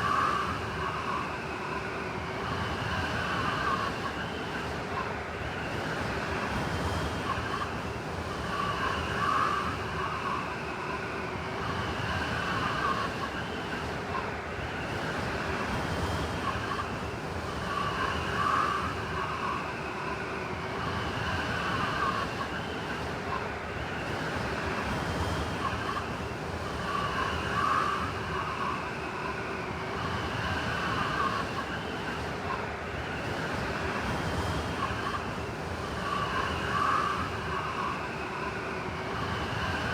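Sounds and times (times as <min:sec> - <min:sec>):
blizzard wind howling: 0:00.0 - 0:39.9.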